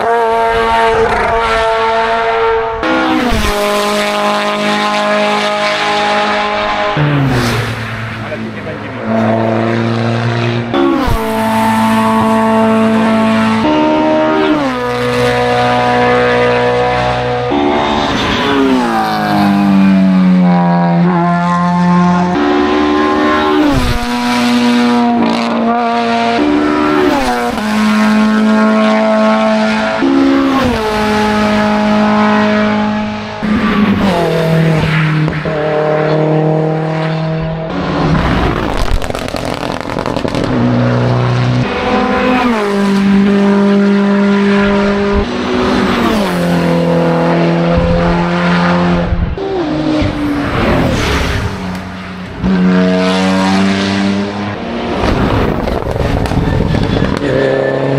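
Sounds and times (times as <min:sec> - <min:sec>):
race car engine at full throttle: 0:00.0 - 0:57.9.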